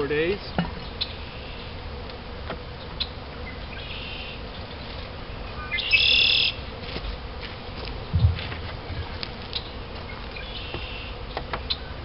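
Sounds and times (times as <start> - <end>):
songbird singing: 0.0 - 1.8, 2.7 - 6.7, 8.0 - 12.0
honey bees buzzing: 0.0 - 12.0.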